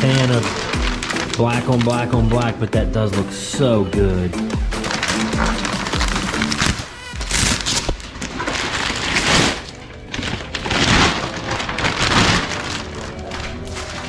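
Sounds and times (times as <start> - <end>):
background music: 0.0 - 14.0
plastic sheeting crinkling: 0.0 - 14.0.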